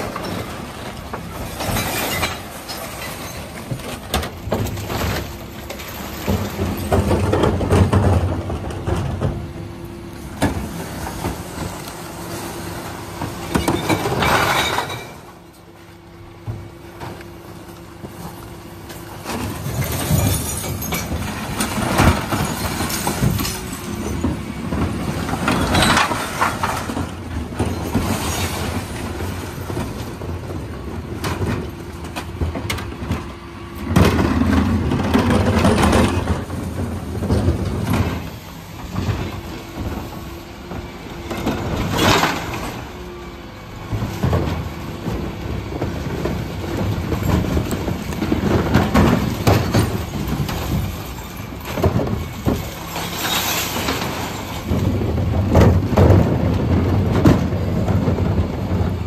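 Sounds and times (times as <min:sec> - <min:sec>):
bins banging and clattering: 0:00.0 - 0:59.0.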